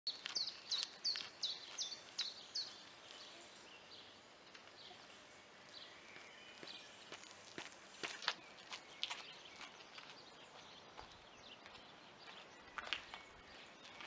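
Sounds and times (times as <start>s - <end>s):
songbird singing: 0.1s - 14.0s.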